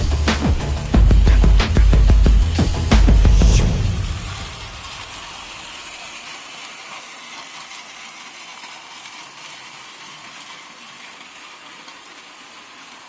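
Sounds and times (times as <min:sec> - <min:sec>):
toy train motor whirring: 0:00.0 - 0:13.0
toy train wheels rattling: 0:00.0 - 0:13.0.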